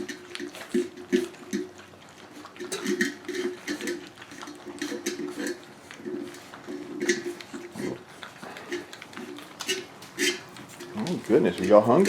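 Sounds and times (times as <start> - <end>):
puppies lapping and slurping: 0.0 - 12.0.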